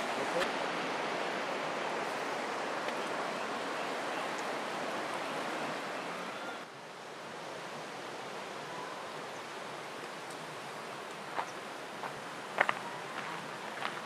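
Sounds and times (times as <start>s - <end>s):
flowing river water: 0.0s - 14.0s.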